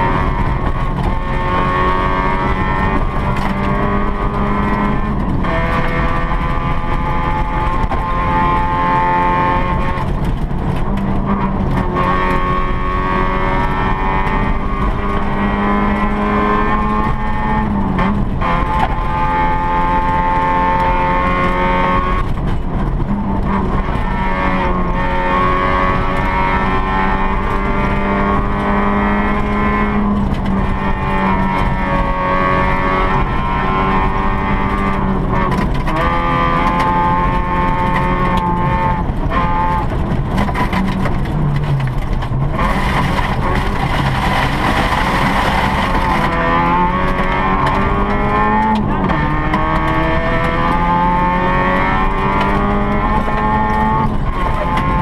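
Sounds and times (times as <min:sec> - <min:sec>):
car engine revving hard: 0:00.0 - 0:55.0
gravel road noise: 0:00.0 - 0:55.0.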